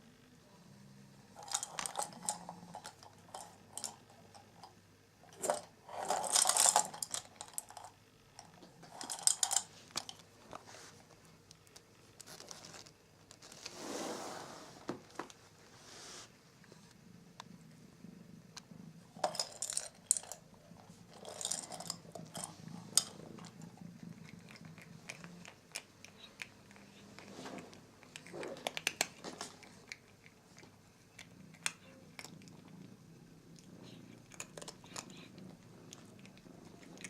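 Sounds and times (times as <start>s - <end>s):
cat crunching dry treats: 1.3s - 13.6s, 19.1s - 37.0s.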